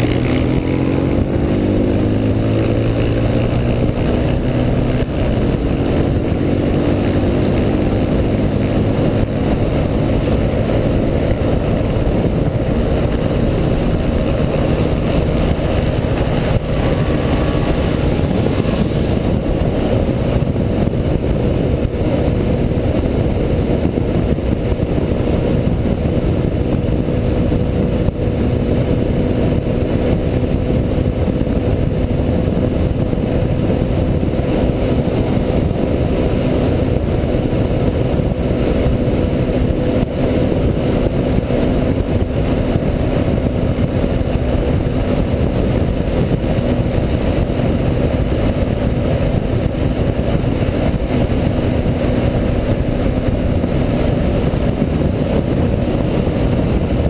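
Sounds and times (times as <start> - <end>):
quad bike engine running: 0.0 - 57.0
wind rumble on microphone: 0.0 - 57.0.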